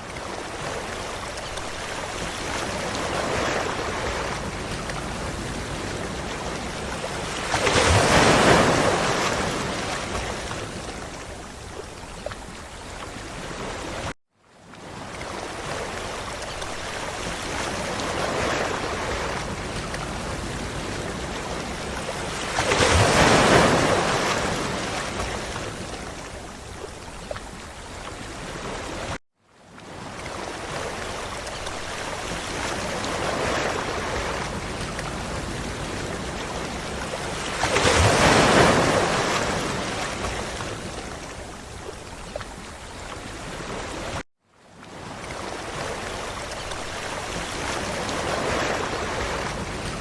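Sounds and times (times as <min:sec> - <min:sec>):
ocean waves washing onto beach: 0:00.0 - 0:50.0.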